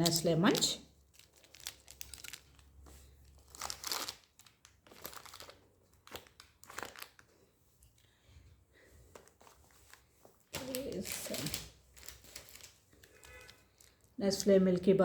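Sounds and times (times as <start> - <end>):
wrappers crinkling: 0.0 - 7.9, 9.1 - 15.0.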